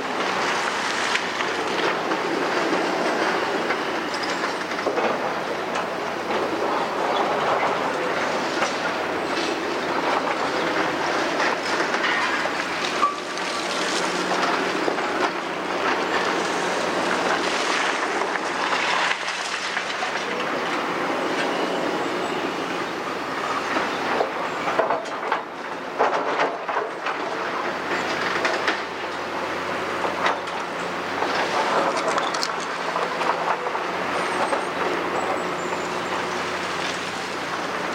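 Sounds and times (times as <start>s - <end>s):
excavator engine running: 0.0s - 37.9s
debris clattering and scraping: 0.2s - 20.8s, 23.7s - 37.9s.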